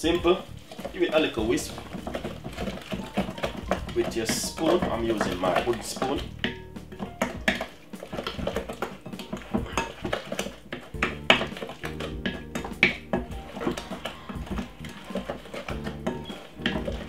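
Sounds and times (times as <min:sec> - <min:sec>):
wooden spoon scraping glass bowl: 0:00.0 - 0:17.0.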